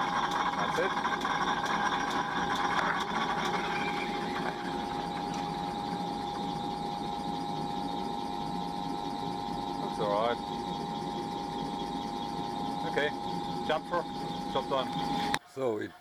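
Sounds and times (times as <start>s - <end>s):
lathe cutting metal: 0.0s - 15.4s
lathe motor whine: 0.0s - 15.4s.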